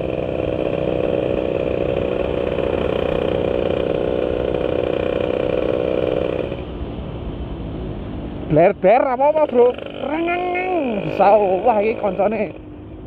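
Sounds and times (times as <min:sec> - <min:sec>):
two-stroke motorcycle engine running: 0:00.0 - 0:06.7, 0:09.1 - 0:13.0.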